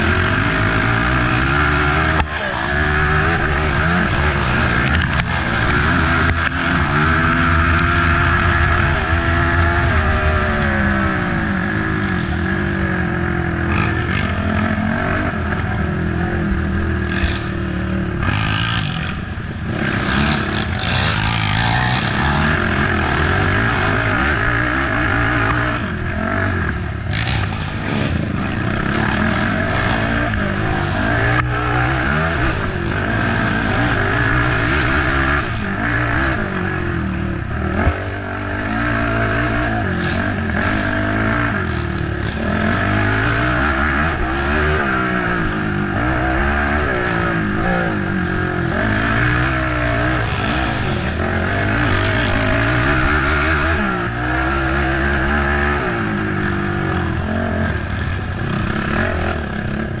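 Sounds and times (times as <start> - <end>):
quad engine revving: 0.0 - 60.0.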